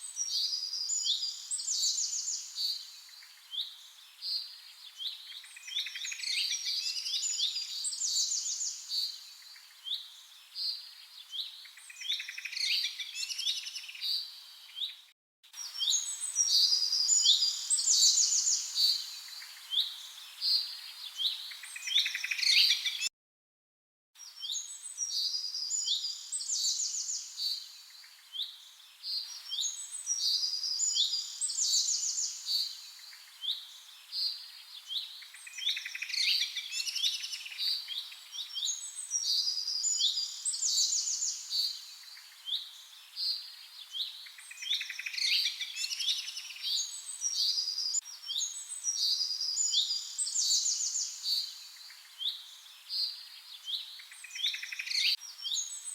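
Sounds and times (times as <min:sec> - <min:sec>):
songbirds singing and chirping: 0:00.0 - 0:23.1, 0:24.2 - 0:55.9.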